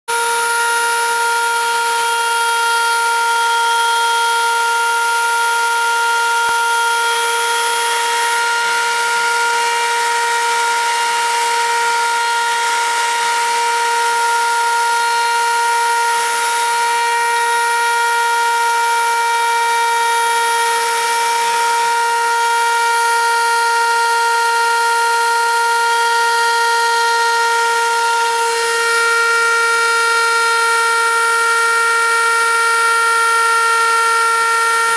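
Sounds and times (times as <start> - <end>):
cutter milling wood hiss: 0.1 - 34.9
machine spindle whining: 0.1 - 34.9.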